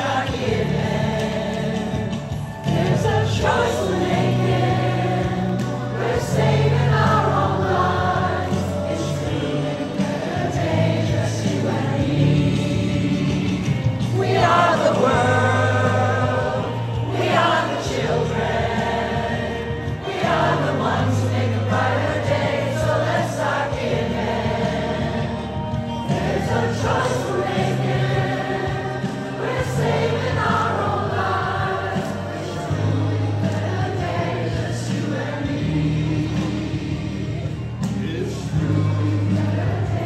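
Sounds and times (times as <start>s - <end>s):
large group singing a cappella: 0.0s - 40.0s.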